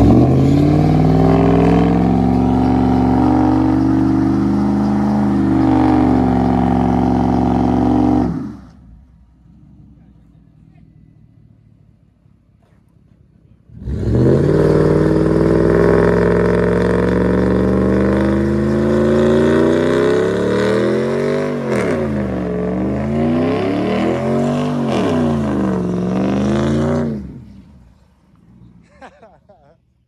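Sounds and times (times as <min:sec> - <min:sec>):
truck engine revving: 0:00.0 - 0:12.1, 0:13.5 - 0:29.3.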